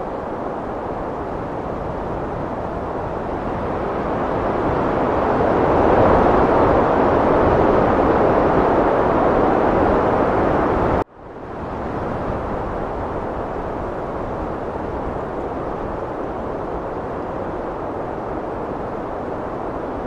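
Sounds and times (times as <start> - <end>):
heavy wind blowing: 0.0 - 20.0.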